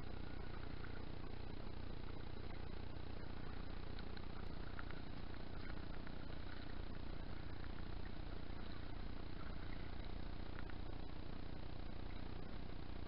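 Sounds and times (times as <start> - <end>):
open-water rumble: 0.0 - 13.0
small ticks and splashes: 0.0 - 13.0.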